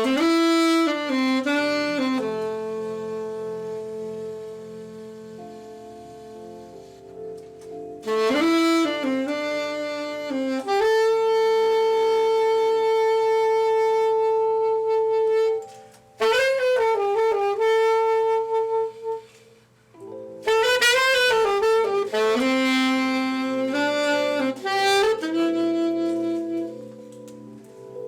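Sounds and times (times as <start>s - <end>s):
saxophone slow melody: 0.0s - 28.0s.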